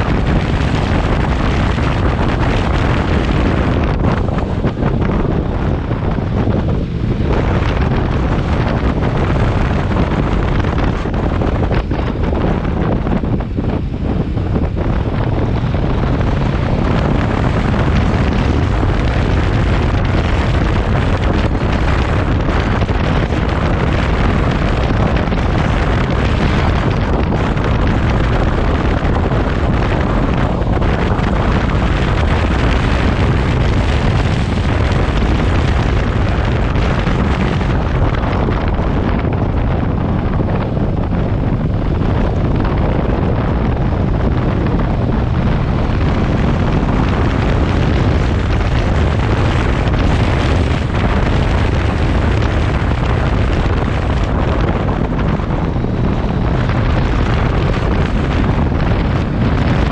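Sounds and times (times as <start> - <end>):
motorcycle running: 0.0 - 59.9
wind buffeting microphone: 0.0 - 59.9.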